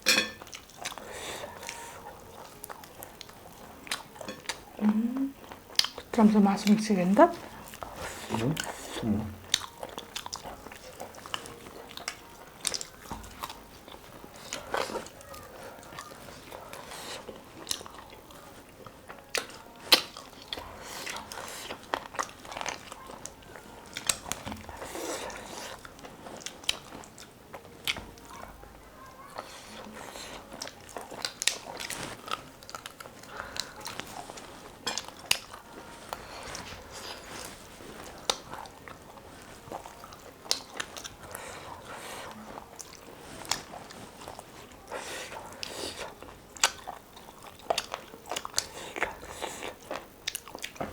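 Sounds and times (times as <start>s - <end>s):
person chewing crunchy food: 0.0s - 6.2s, 7.3s - 50.9s.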